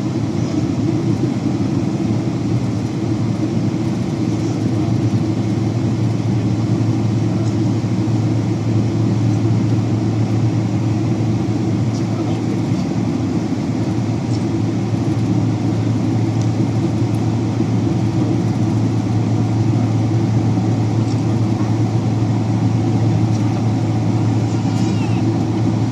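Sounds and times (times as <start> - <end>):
airliner cabin drone: 0.0 - 25.9.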